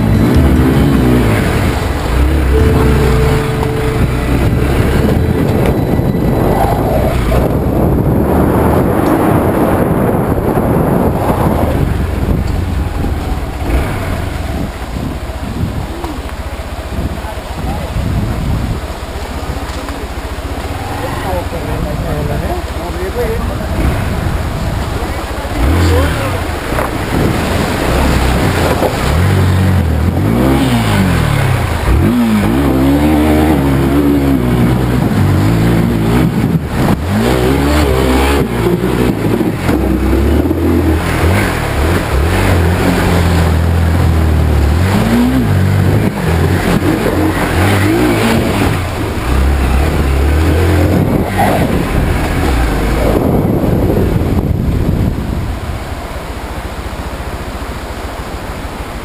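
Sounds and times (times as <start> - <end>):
motorcycle engine revving: 0.0 - 58.6
water washing around bike: 6.2 - 59.0.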